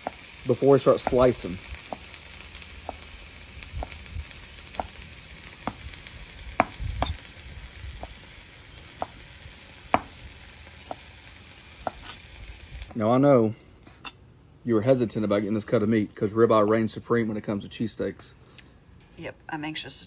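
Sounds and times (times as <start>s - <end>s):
faint sizzle: 0.0s - 20.0s.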